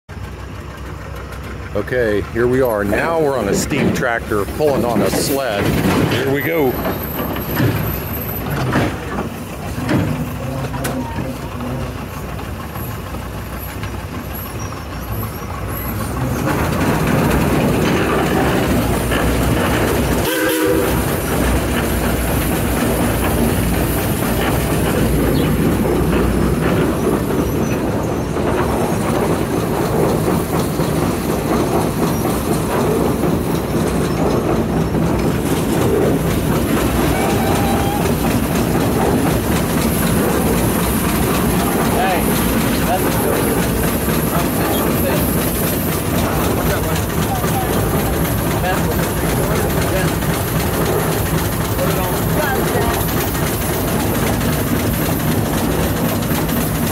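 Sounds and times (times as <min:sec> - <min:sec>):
steam engine mechanical clatter: 0:00.1 - 0:56.9.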